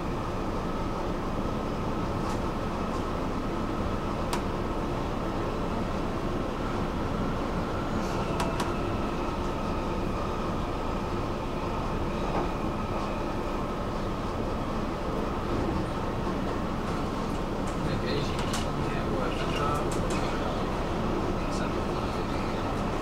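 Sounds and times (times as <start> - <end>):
metro train rumble and whine: 0.0 - 23.0.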